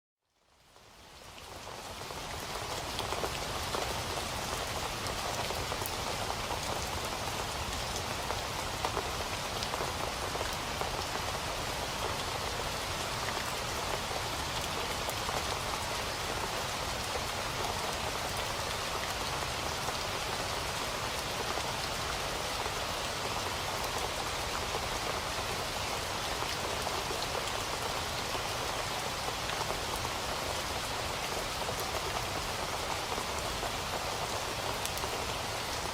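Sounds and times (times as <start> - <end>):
rain falling steadily: 0.2 - 35.9
raindrops ticking close by: 0.4 - 35.9.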